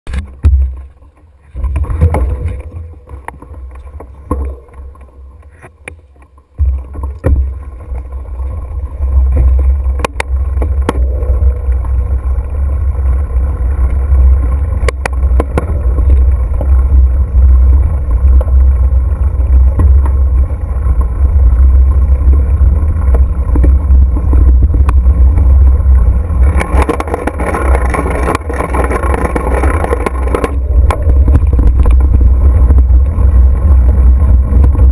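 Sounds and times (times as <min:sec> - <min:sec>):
bike clicks and rattles: 0:00.1 - 0:34.9
wind buffeting microphone: 0:06.6 - 0:34.9.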